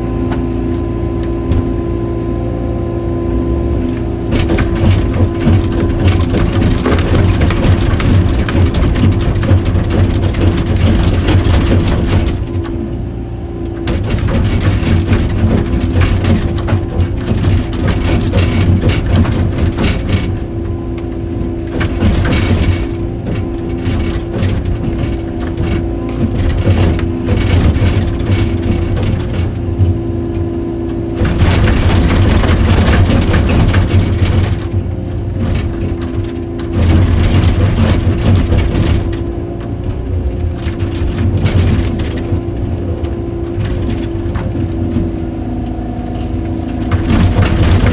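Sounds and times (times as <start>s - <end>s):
excavator engine under load: 0.0s - 47.9s.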